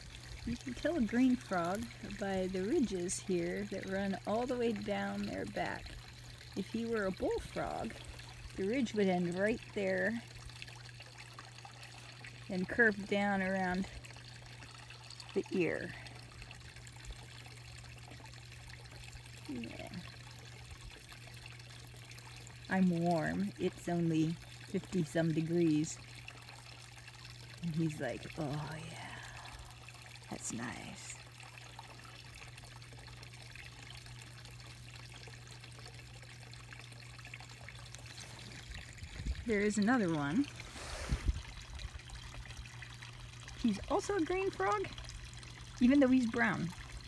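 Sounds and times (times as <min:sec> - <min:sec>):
low steady hum: 0:00.0 - 0:47.0
trickle of running water: 0:00.0 - 0:47.0.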